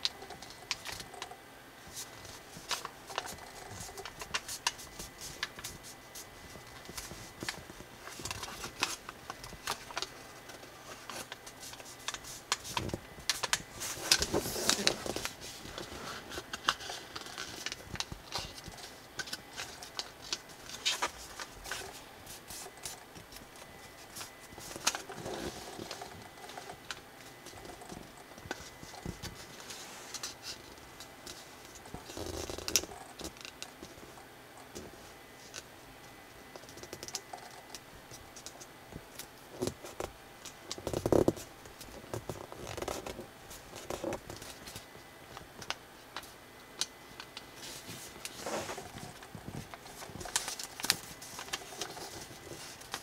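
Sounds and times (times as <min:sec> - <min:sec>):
paper folding and crinkling: 0:00.0 - 0:35.7, 0:36.6 - 0:53.0.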